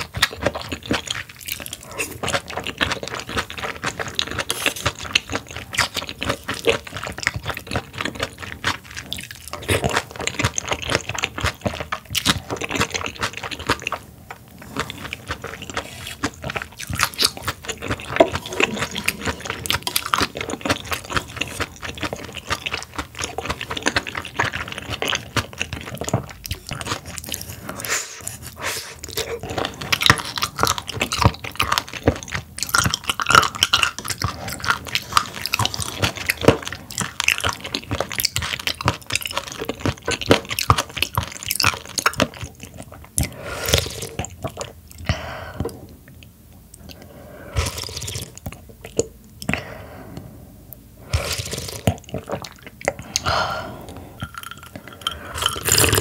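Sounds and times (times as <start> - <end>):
wet chewing and smacking: 0.0 - 49.6, 50.8 - 56.0.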